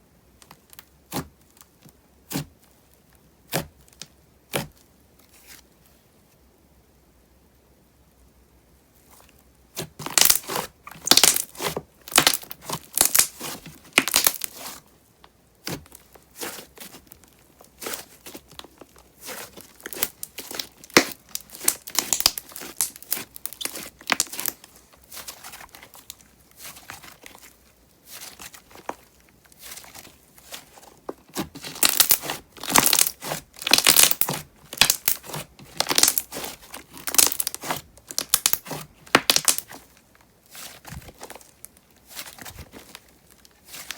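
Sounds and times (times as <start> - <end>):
slime squishing: 0.4 - 5.6, 9.0 - 43.9.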